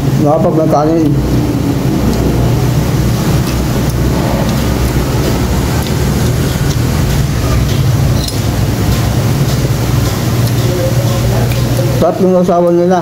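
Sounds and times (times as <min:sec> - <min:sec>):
machine droning hum: 0:00.0 - 0:13.0.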